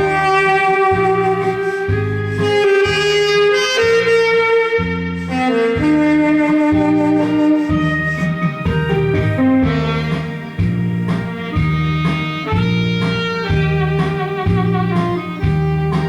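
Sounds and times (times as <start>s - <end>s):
instrumental backing track: 0.0s - 16.0s.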